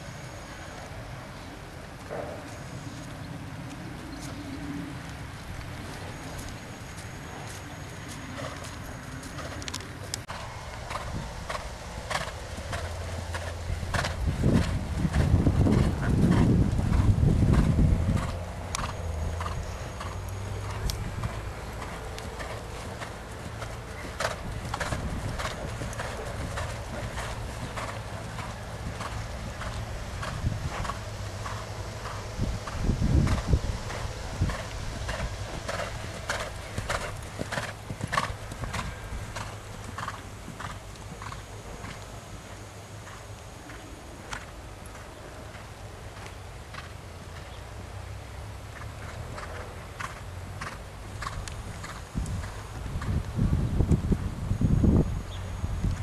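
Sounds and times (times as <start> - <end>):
horse hoofbeats on sand: 5.5 - 47.6, 48.7 - 53.5.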